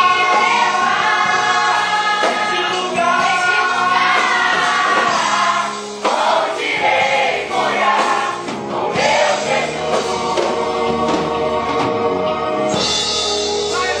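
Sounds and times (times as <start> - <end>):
choir singing gospel song: 0.0 - 14.0.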